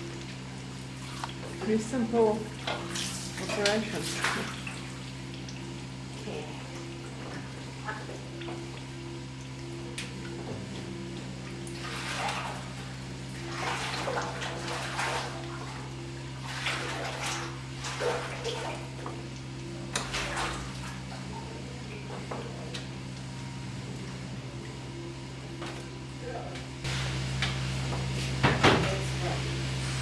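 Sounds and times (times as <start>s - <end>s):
machinery hum with pulse: 0.0s - 30.0s.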